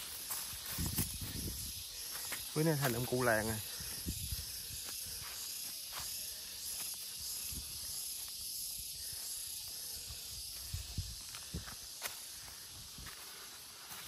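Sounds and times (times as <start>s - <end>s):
footsteps on trail: 0.0s - 14.0s
insects droning: 0.0s - 14.0s.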